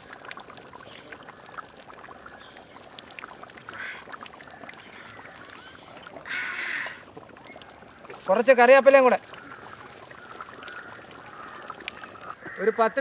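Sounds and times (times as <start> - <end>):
oil being poured: 0.0 - 12.5
curry bubbling and crackling: 0.0 - 13.0.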